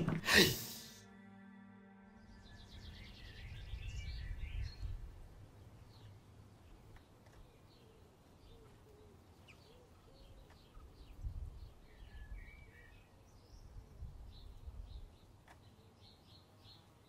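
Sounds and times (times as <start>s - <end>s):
small birds chirping: 2.4s - 17.0s.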